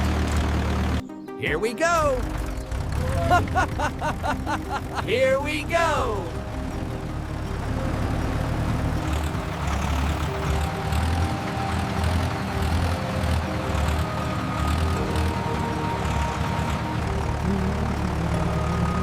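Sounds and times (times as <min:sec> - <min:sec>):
tractor engine running: 0:00.0 - 0:01.0, 0:02.0 - 0:19.0.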